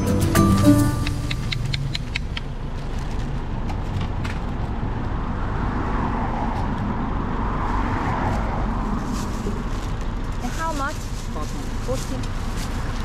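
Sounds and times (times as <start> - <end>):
road traffic rumble: 0.0 - 13.0
vehicle passing: 0.4 - 13.0.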